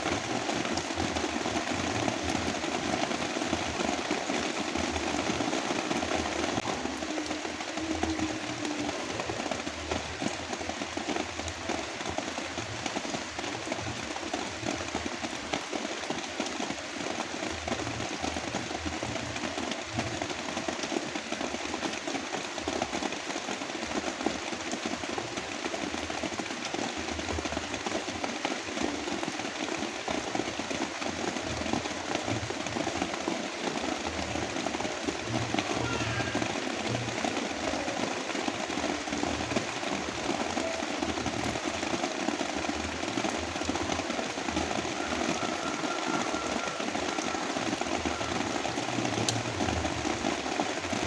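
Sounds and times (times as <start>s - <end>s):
heavy rain hiss: 0.0s - 51.0s.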